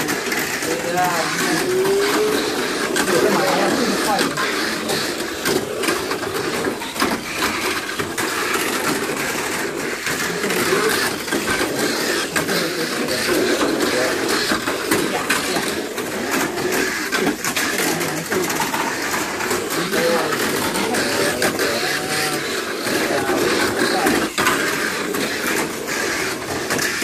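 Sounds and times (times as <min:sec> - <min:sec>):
small electric motors whirring: 0:00.0 - 0:27.0
toy cars rattling against track: 0:00.0 - 0:27.0.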